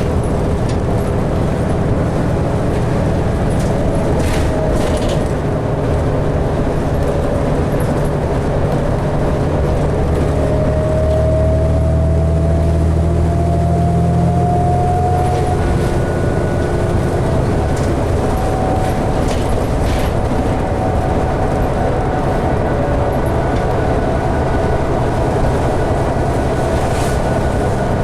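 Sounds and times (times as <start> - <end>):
bus engine drone: 0.0 - 28.0
thin rising whine: 0.0 - 28.0.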